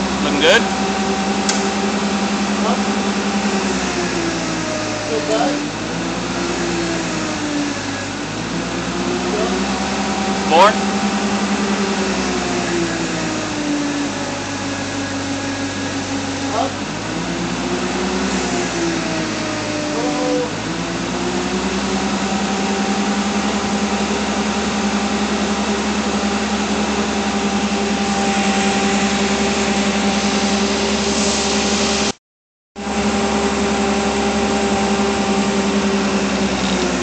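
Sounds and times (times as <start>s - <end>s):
forklift motor running: 0.0s - 32.2s, 32.8s - 37.0s.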